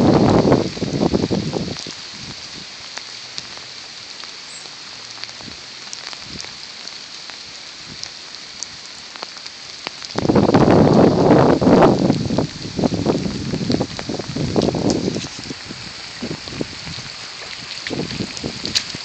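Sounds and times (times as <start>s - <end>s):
rain falling: 0.0s - 19.0s
raindrop ticks: 0.0s - 19.0s.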